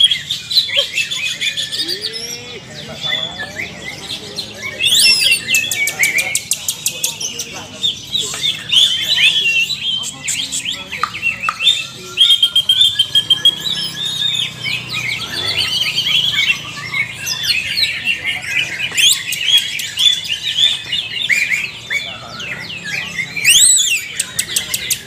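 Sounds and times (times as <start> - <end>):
birds singing: 0.0 - 25.0.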